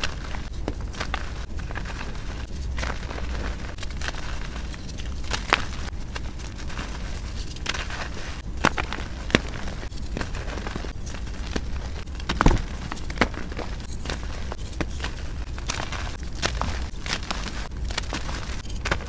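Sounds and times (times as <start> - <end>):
hands crunching powder blocks: 0.0 - 19.0
soft powdery rustling: 0.0 - 19.0.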